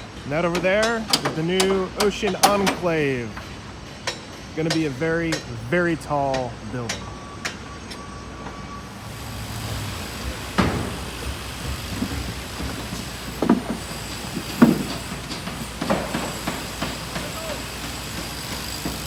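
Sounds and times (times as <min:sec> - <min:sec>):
traffic and construction rumble: 0:00.0 - 0:19.0.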